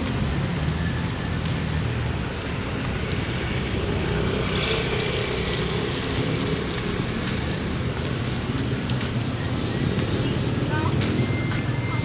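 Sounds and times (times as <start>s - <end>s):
vehicle engines on city road: 0.0s - 12.0s.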